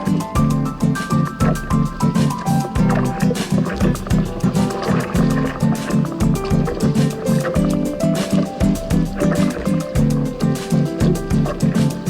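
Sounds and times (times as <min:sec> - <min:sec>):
music with fast beat and bass: 0:00.0 - 0:12.0.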